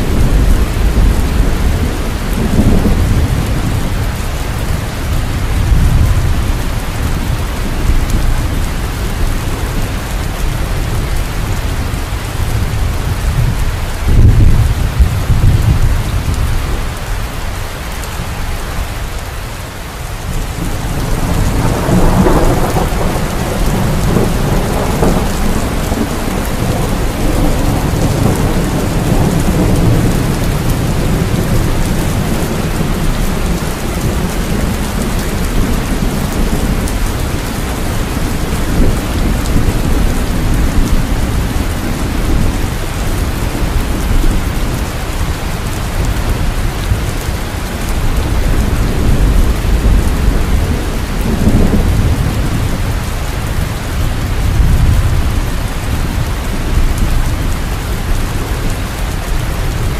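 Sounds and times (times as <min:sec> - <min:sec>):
thunder clap and rumble: 0:00.0 - 0:19.2, 0:20.1 - 0:59.9
steady rain: 0:00.0 - 0:59.9.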